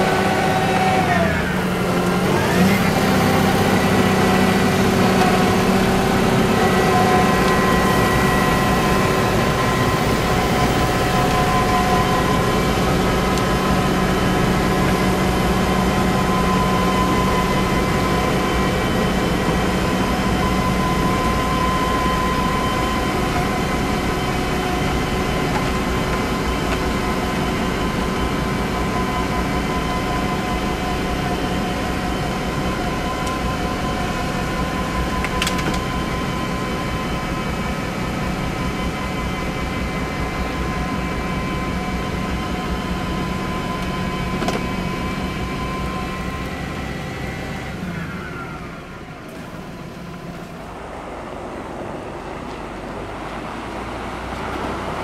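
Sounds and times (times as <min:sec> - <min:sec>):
tractor snow blower droning: 0:00.0 - 0:55.0.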